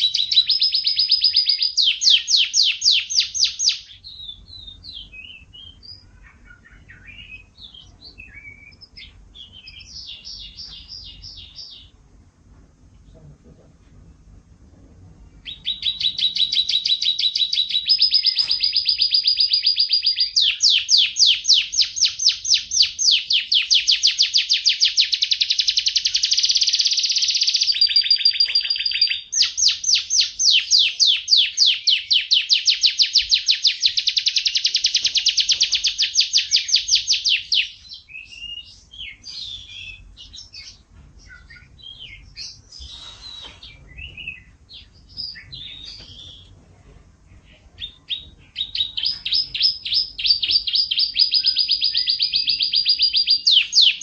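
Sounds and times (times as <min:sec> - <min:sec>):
songbird trilling: 0:00.0 - 0:11.9, 0:15.4 - 0:46.5, 0:47.8 - 0:54.0
bird chirps: 0:00.0 - 0:12.0, 0:15.4 - 0:46.5, 0:47.4 - 0:54.0.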